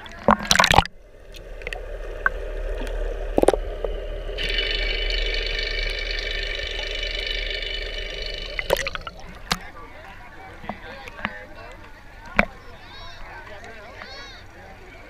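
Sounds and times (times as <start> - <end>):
muffled underwater rumble: 0.0 - 13.2
water splashing: 0.0 - 13.2
high whine underwater: 0.0 - 13.3.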